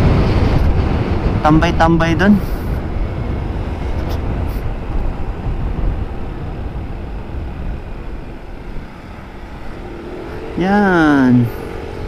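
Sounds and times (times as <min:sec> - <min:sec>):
vehicle and road noise: 0:00.0 - 0:12.0
wind buffeting microphone: 0:00.0 - 0:12.0.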